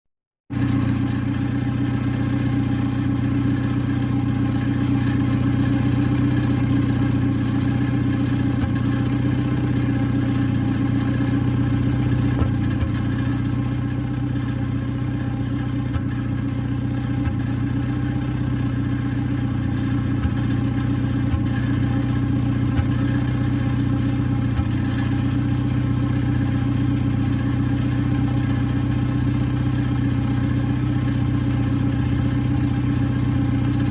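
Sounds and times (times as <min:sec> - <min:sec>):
car engine idling: 0:00.5 - 0:33.9.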